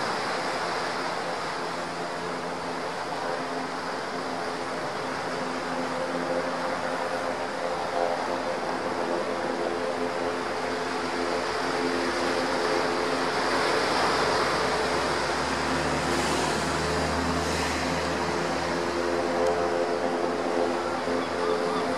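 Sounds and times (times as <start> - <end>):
helicopter hovering: 0.0 - 21.9.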